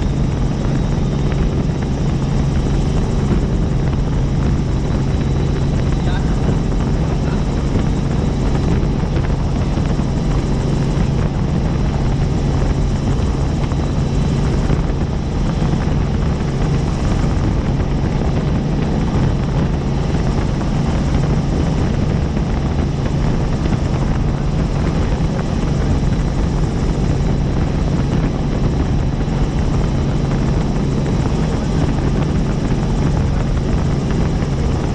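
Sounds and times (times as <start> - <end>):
helicopter rotor and engine drone: 0.0 - 34.9
high whine: 0.0 - 34.9.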